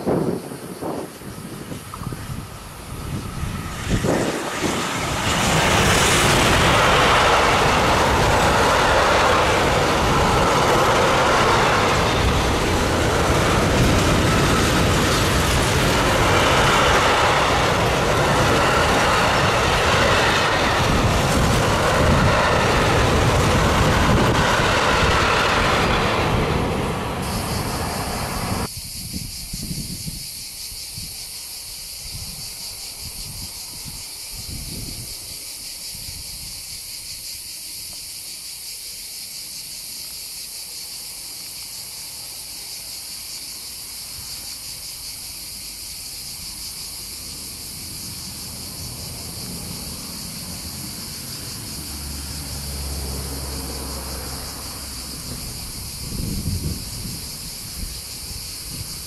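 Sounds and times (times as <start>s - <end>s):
cicadas chorus: 0.0s - 59.0s
distant train rumble: 0.0s - 59.0s
freight train rumbling past: 0.0s - 59.0s.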